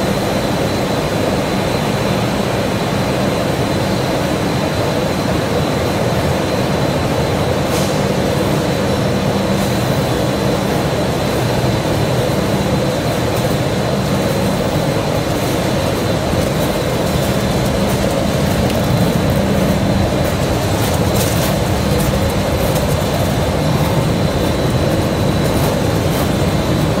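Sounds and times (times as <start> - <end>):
high constant whine: 0.0 - 27.0
machinery humming: 0.0 - 27.0.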